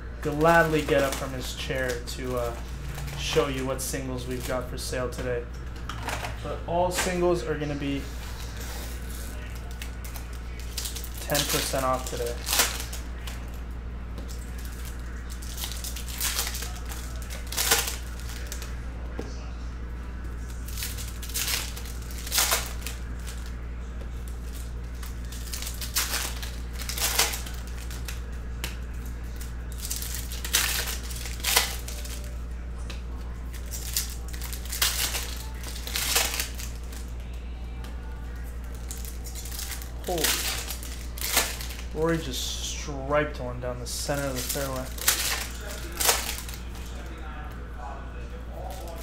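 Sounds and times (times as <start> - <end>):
steady low hum: 0.0 - 49.0
foil wrappers crinkling and tearing: 0.2 - 13.6, 14.2 - 18.8, 20.3 - 47.7, 48.5 - 49.0.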